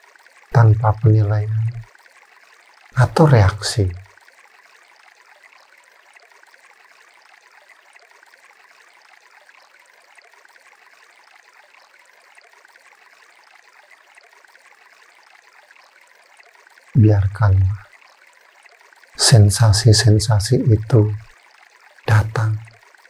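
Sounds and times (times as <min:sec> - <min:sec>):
faint flowing water: 0:00.0 - 0:23.0.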